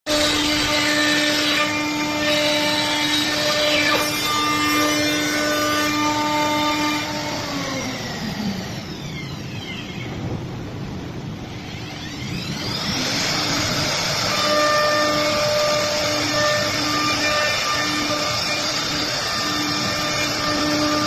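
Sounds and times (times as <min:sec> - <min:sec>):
router spindles whining: 0:00.1 - 0:21.0.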